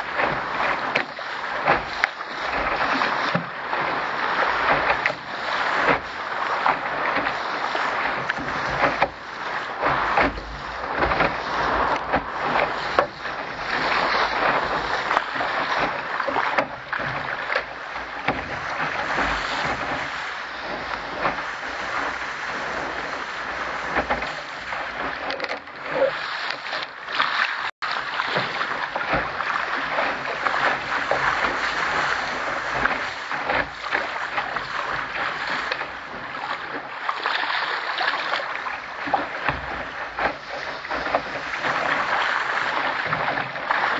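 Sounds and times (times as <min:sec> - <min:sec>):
small waves slapping: 0:00.0 - 0:43.9
water rushing along a hull: 0:00.0 - 0:43.9.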